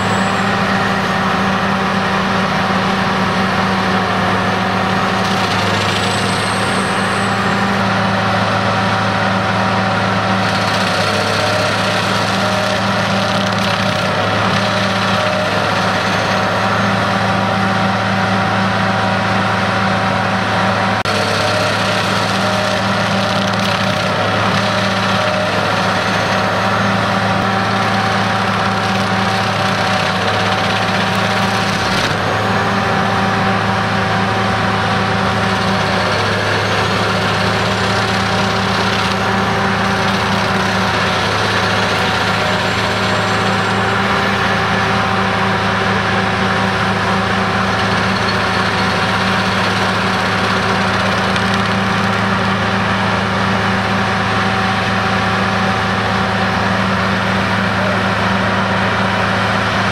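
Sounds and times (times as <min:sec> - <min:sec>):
cutter wheel grinding stump: 0:00.0 - 0:59.9
stump grinder engine droning: 0:00.0 - 0:59.9.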